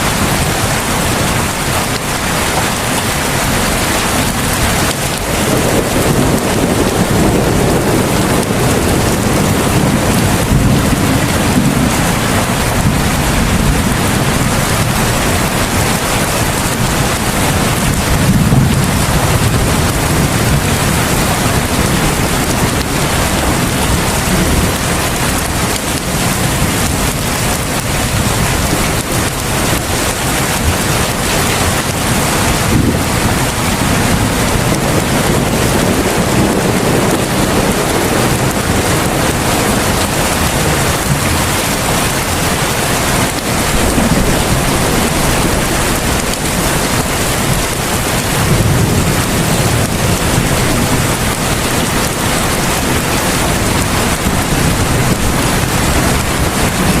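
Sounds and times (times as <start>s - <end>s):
heavy rain falling: 0.0s - 57.0s
low rumbles of thunder: 0.0s - 57.0s.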